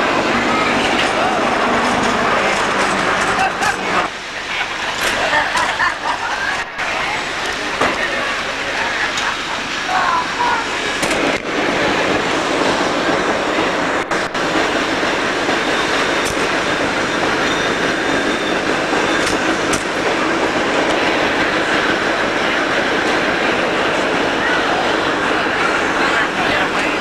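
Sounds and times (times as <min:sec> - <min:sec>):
cable car rumbling on rails: 0:00.0 - 0:27.0.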